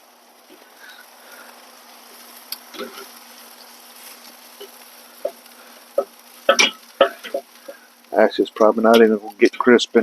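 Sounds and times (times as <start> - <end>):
chicken sizzling on a grill: 0.0 - 10.0.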